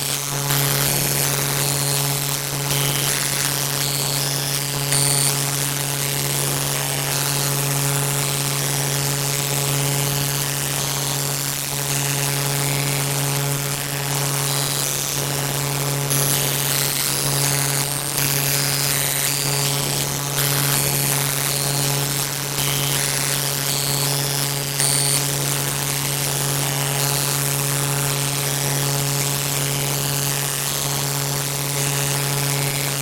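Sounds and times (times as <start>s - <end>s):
loud droning hum: 0.0s - 33.0s.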